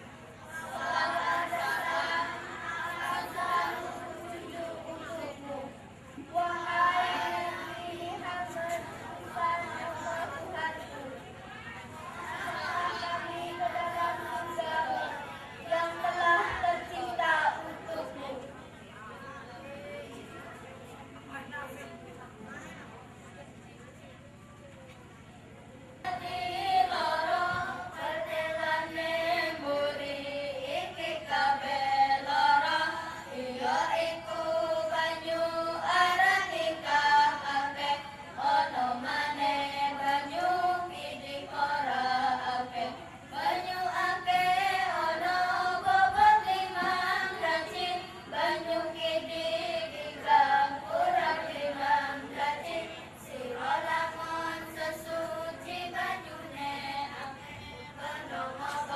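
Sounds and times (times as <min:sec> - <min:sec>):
children chanting in unison: 0:00.5 - 0:05.5, 0:06.3 - 0:11.0, 0:11.9 - 0:18.3, 0:26.1 - 0:58.9.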